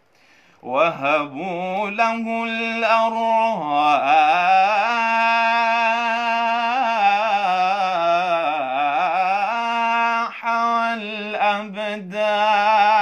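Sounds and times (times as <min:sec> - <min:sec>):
man chanting devotional hymn: 0:00.6 - 0:13.0.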